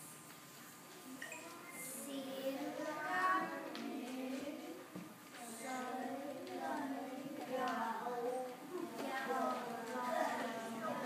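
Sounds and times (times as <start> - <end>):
children singing together: 1.4 - 11.0.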